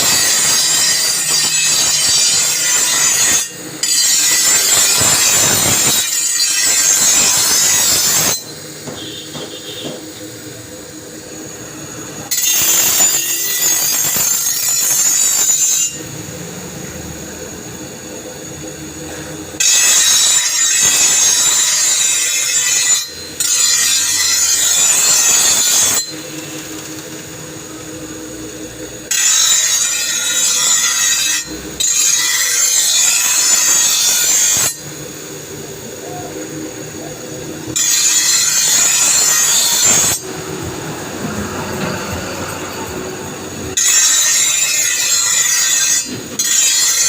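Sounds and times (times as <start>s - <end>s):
steel on grinding wheel: 0.0s - 47.0s.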